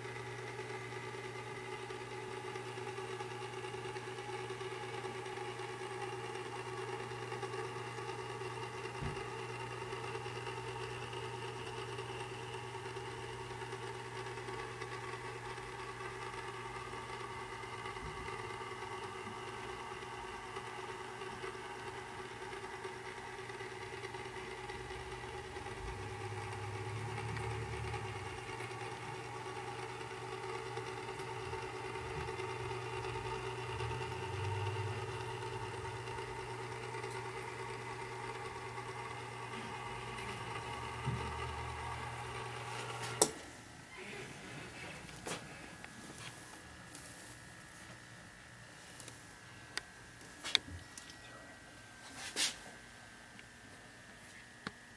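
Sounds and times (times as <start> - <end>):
turntable motor humming: 0.0 - 54.9.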